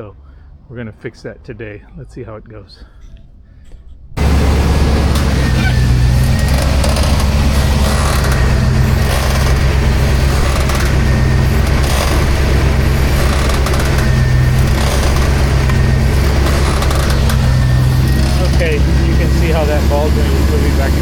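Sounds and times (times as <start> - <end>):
car engine idling: 4.2 - 21.0.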